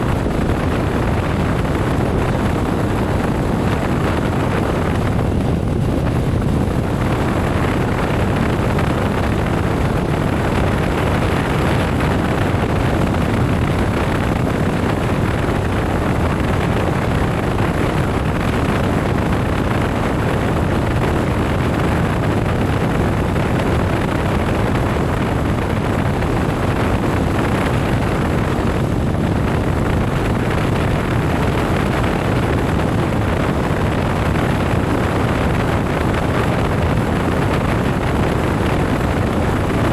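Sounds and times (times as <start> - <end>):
road noise: 0.0 - 39.9
wind on microphone: 0.0 - 39.9.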